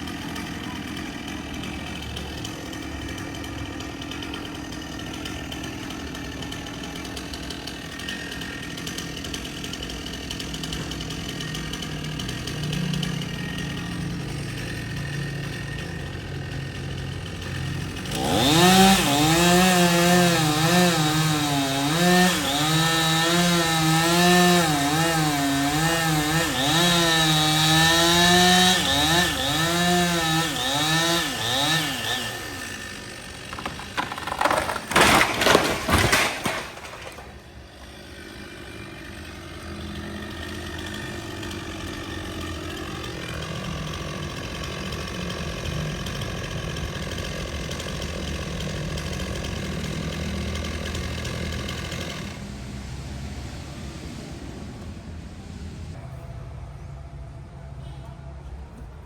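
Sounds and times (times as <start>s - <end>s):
chainsaw cutting wood: 0.0s - 53.2s.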